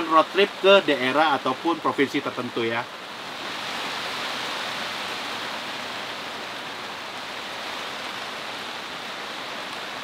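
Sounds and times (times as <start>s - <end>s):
rain falling on tent: 0.0s - 10.0s.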